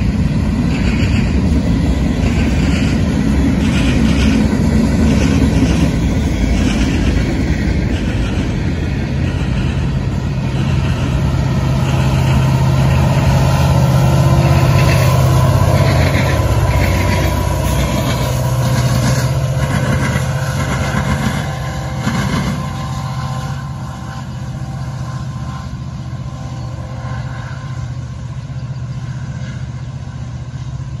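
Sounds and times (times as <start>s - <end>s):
locomotive engine droning: 0.0s - 31.0s
train running noise: 0.0s - 31.0s.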